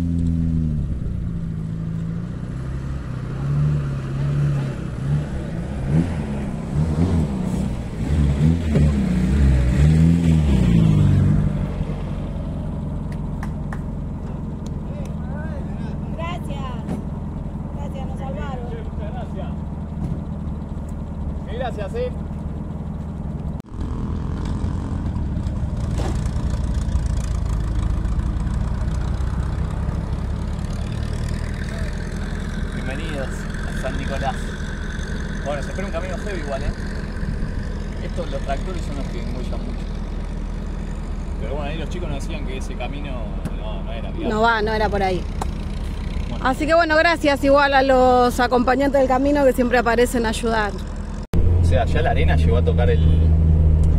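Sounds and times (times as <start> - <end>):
vehicle engine revving: 0.0 - 53.9.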